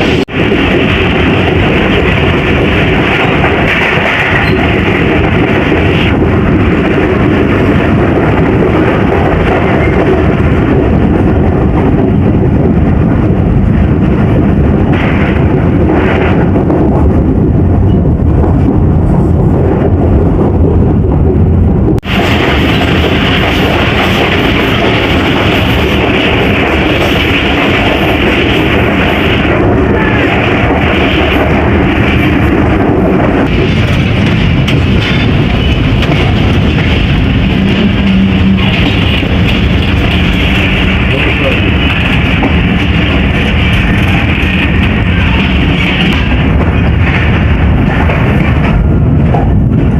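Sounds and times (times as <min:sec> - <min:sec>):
passenger train roaring: 0:00.0 - 0:49.9
train wheels on track: 0:00.0 - 0:49.9.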